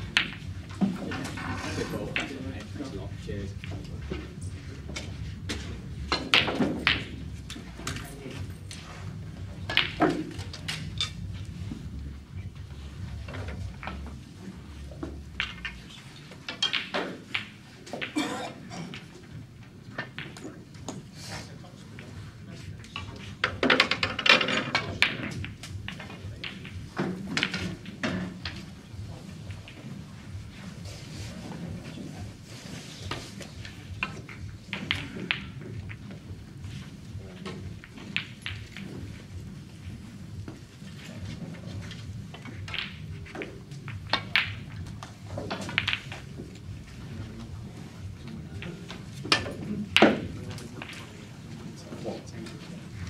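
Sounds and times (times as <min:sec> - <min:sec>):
snooker balls clicking together: 0:00.0 - 0:02.9, 0:03.6 - 0:21.1, 0:22.0 - 0:30.7, 0:31.4 - 0:53.0.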